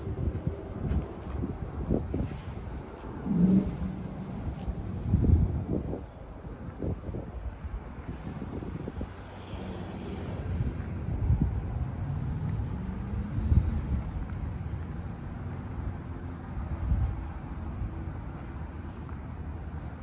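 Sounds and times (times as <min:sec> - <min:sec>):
distant traffic rumble: 0:00.0 - 0:20.0
wind buffeting microphone: 0:00.0 - 0:20.0.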